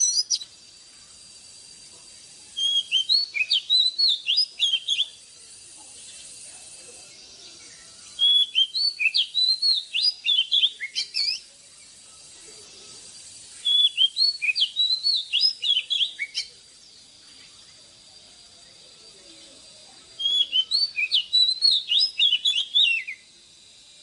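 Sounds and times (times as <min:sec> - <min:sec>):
songbird whistled song: 0:00.0 - 0:23.8.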